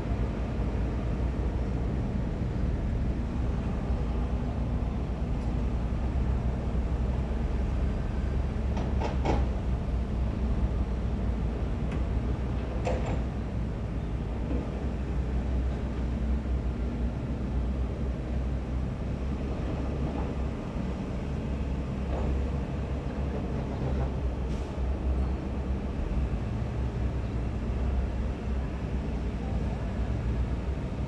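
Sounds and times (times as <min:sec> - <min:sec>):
heavy diesel engines rumbling: 0:00.0 - 0:31.0.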